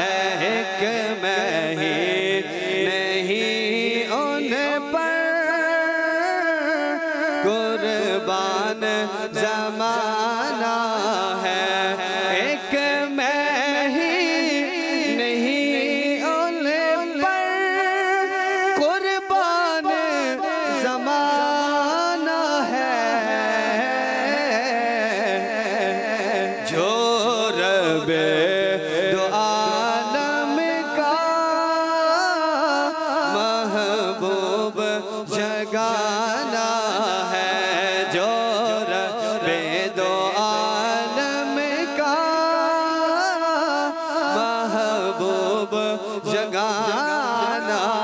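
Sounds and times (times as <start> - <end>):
man singing into a microphone: 0.0 - 48.0.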